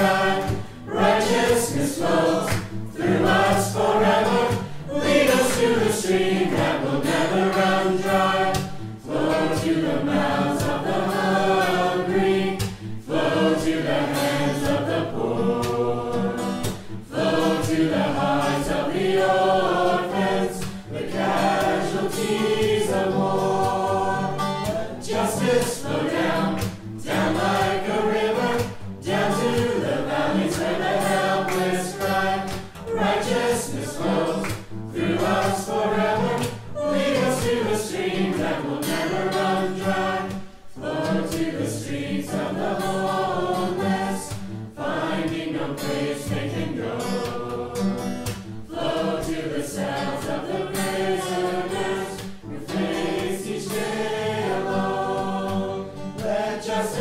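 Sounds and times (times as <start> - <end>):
choir singing gospel song: 0.0 - 57.0
low musical accompaniment: 0.0 - 57.0.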